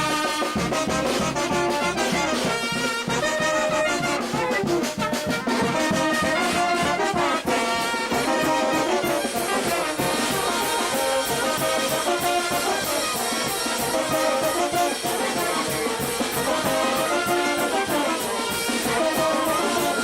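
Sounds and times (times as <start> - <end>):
brass band playing: 0.0 - 20.0
percussion beat: 0.0 - 20.0.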